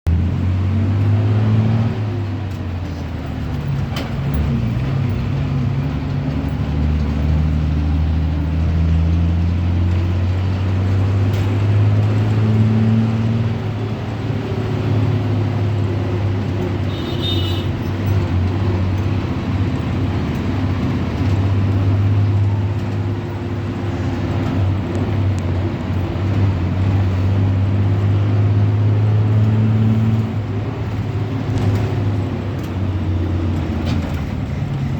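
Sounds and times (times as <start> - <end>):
bus engine droning: 0.1 - 34.9.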